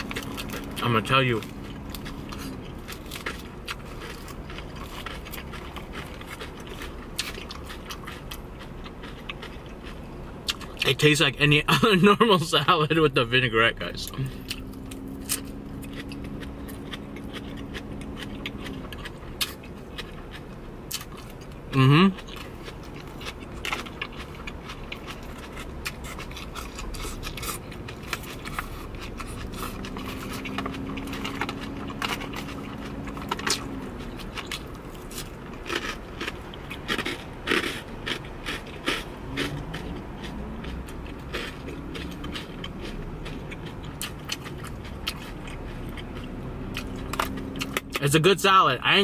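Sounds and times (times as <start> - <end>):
crunching and chewing salad: 0.0 - 49.0.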